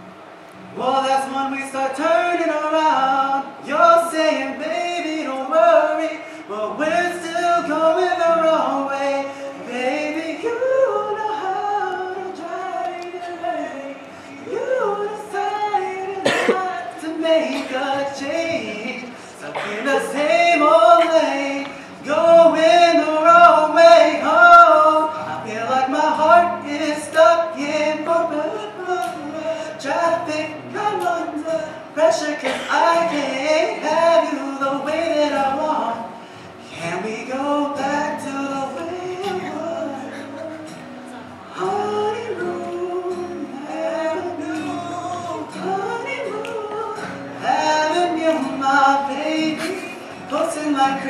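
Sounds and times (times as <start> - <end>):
man singing into a microphone: 0.7 - 51.0.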